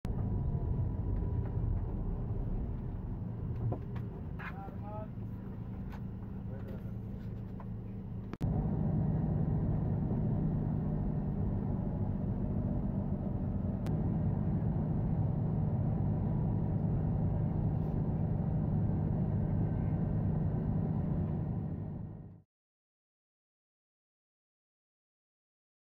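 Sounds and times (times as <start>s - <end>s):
road rumble: 0.0s - 22.4s
bus engine drone: 0.0s - 22.5s.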